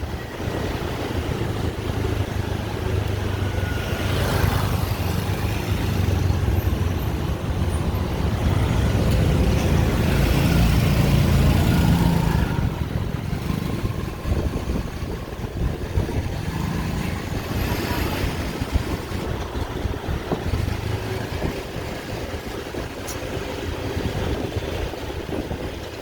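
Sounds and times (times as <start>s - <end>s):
din of street traffic: 0.0s - 26.0s
loud engine passing close: 0.2s - 25.8s.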